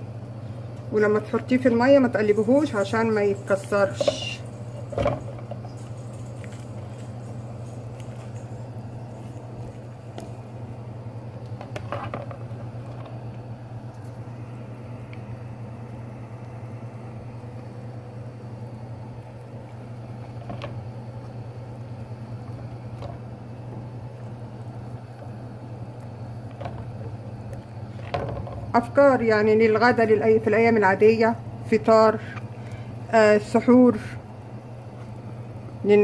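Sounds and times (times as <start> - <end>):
kitchen hum and rumble: 0.0 - 36.0.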